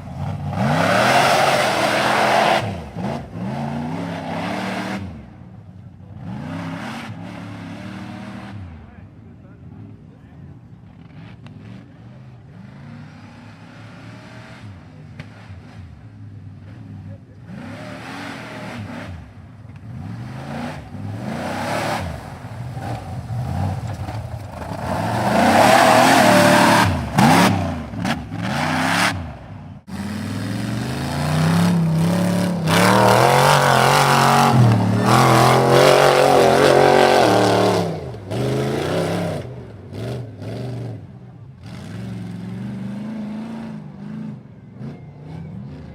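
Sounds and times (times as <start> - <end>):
truck engine revving hard: 0.0 - 8.9, 11.0 - 45.9.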